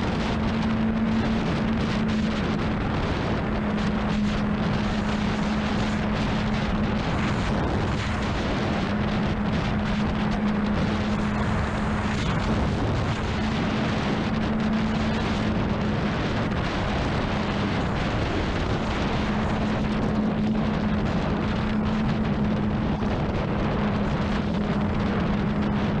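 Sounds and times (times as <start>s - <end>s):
wind rush on microphone: 0.0s - 26.0s.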